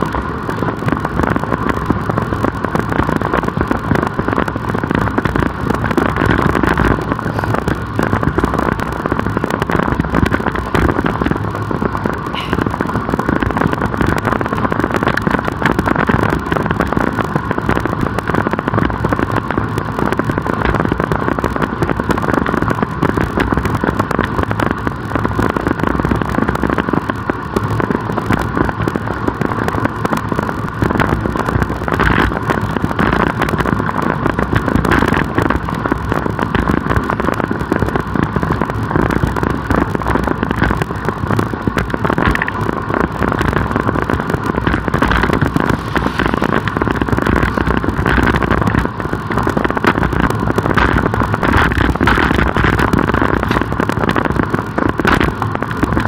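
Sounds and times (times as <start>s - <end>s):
road noise: 0.0s - 56.0s
wind rushing on microphone: 0.0s - 56.0s.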